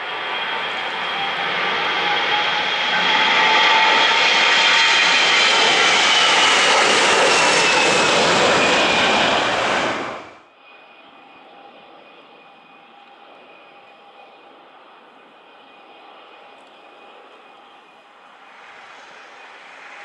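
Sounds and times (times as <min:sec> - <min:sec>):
jet engines roaring and whining: 0:00.0 - 0:20.0.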